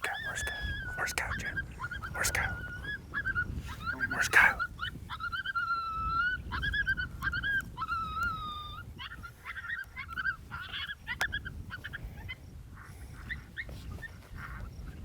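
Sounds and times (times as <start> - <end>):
canine yips: 0.1 - 12.3.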